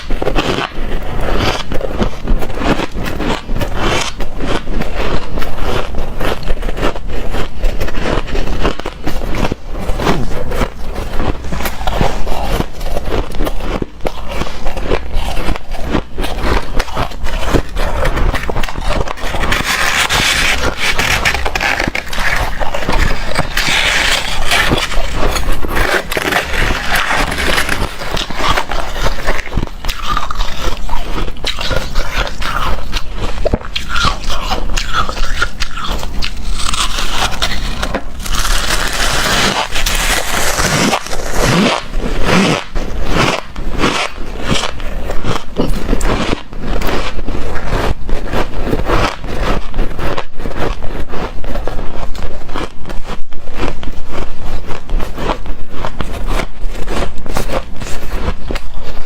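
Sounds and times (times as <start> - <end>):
ice scraping when scooped: 0.0 - 52.2
shaved ice crunching when chewed: 0.0 - 59.0.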